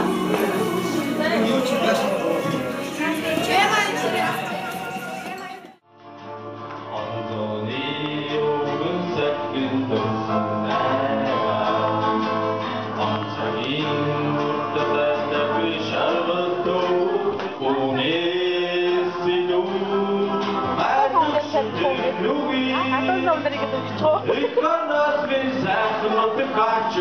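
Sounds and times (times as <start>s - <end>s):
person singing: 0.0s - 5.7s, 6.9s - 27.0s
acoustic guitar: 0.0s - 27.0s.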